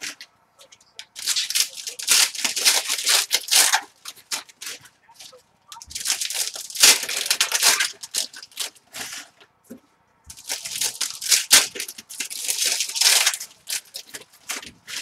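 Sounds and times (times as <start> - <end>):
wrappers torn and crinkled: 1.0 - 9.4, 10.3 - 15.0.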